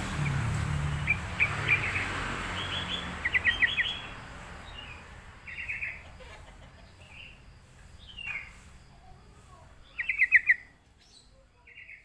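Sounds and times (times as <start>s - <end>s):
bulbul singing: 0.0s - 12.0s.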